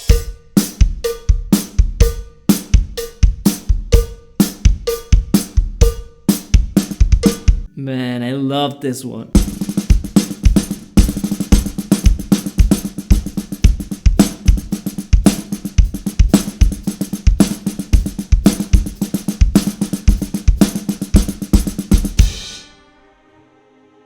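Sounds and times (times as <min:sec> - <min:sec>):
cymbals: 0:00.0 - 0:07.7, 0:09.4 - 0:22.9
kick drum: 0:00.1 - 0:07.7, 0:09.4 - 0:22.4.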